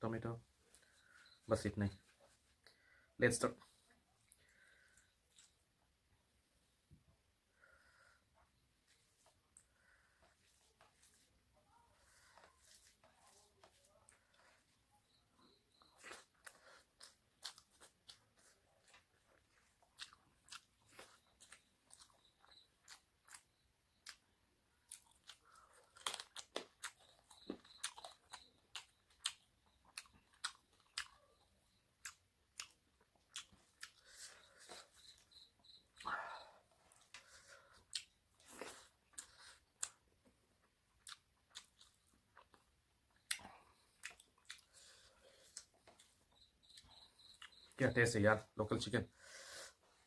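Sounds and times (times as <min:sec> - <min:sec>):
wet chewing and mouth sounds: 0:03.6 - 0:05.8, 0:08.4 - 0:47.8.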